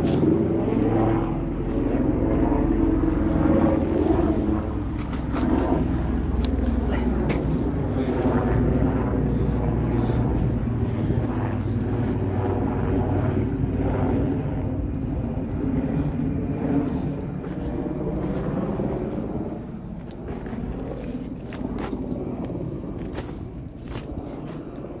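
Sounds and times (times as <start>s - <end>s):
aircraft engine drone: 0.0s - 25.0s.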